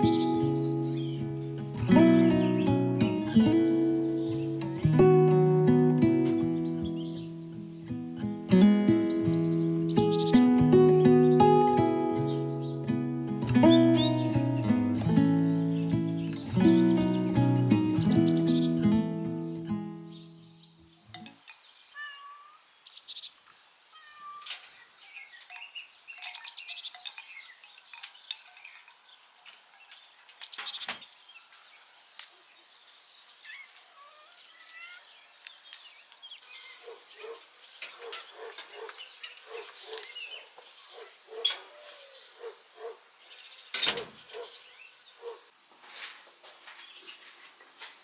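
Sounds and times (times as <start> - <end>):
songbirds chirping and singing: 0.0 - 48.0.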